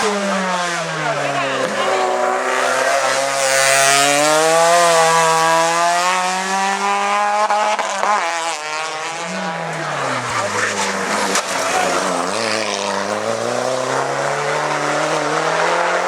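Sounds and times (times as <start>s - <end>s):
race car engine revving high: 0.0s - 16.0s.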